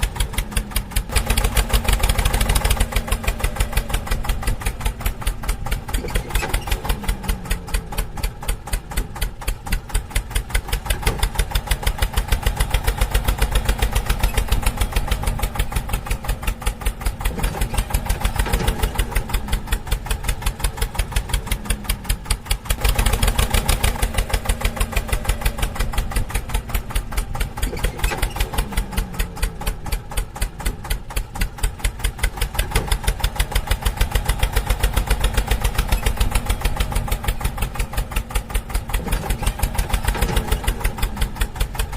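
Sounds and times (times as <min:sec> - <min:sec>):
diesel tractor engine idling: 0:00.0 - 0:41.9.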